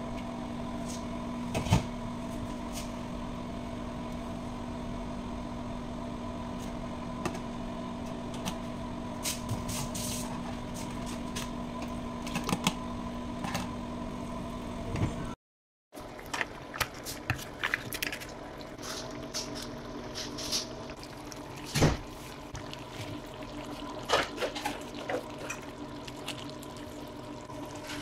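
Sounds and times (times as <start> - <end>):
steady mechanical hum: 0.0 - 15.4, 16.0 - 28.0.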